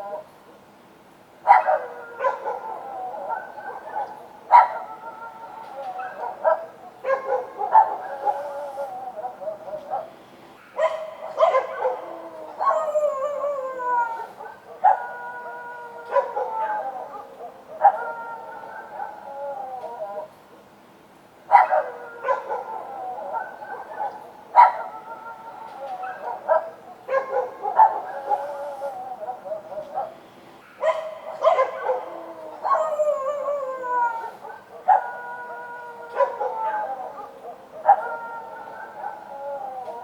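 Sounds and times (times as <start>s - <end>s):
dogs barking and howling: 0.0s - 0.3s, 1.4s - 20.4s, 21.5s - 40.0s.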